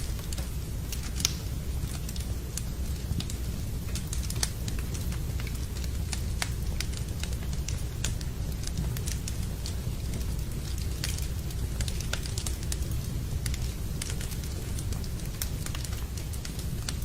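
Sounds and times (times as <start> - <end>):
rain: 0.0 - 17.0
wood fire crackling: 0.0 - 17.0.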